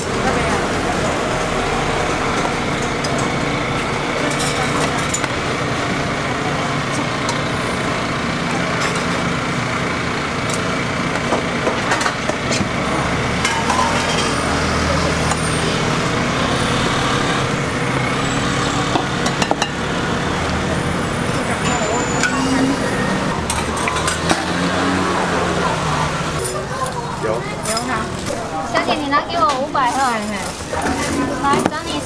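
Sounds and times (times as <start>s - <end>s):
road traffic hum: 0.0s - 32.0s.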